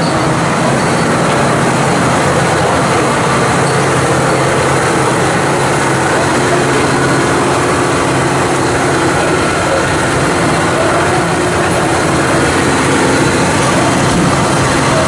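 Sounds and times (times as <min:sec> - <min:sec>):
diesel locomotive engine drone: 0:00.0 - 0:15.0
train noise: 0:00.0 - 0:15.0.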